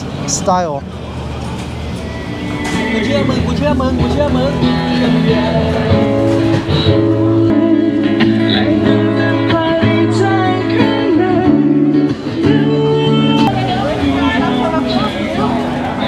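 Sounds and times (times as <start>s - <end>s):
strummed acoustic guitar: 2.0s - 16.0s
man singing: 2.3s - 16.0s.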